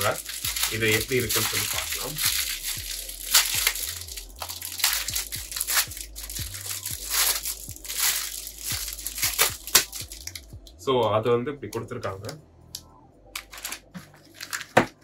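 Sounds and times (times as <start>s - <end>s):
plastic packaging crinkling: 0.0s - 10.5s, 13.4s - 15.0s.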